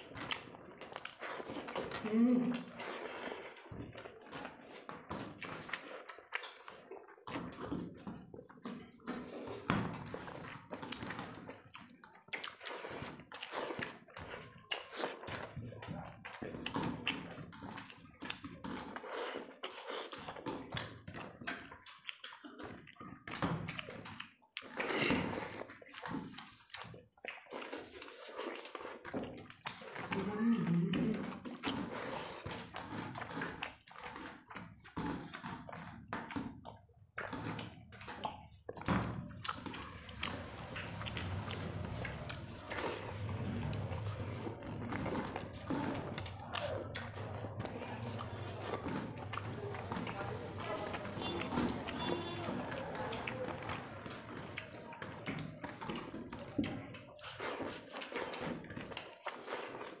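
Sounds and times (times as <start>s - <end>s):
chewing: 0.0s - 60.0s
fingers mashing rice: 0.0s - 60.0s.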